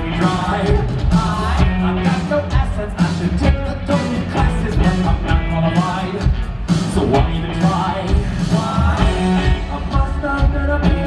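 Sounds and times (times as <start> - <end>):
lead singer singing: 0.0 - 11.0
live rock band playing: 0.0 - 11.0.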